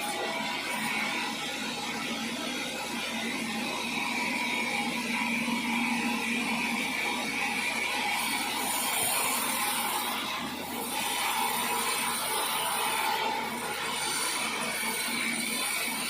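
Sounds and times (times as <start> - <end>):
sawmill saw cutting wood: 0.0 - 16.0.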